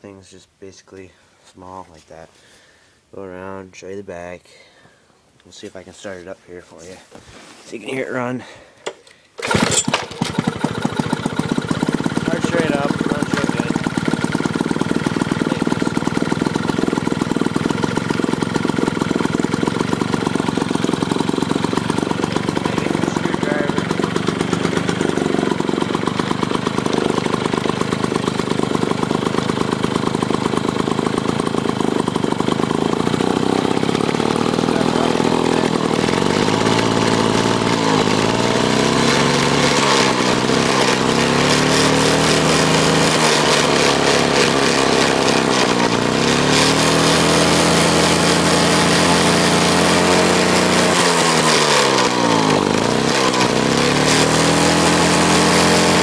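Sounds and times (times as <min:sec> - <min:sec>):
lawn mower engine running: 0:07.9 - 0:56.0.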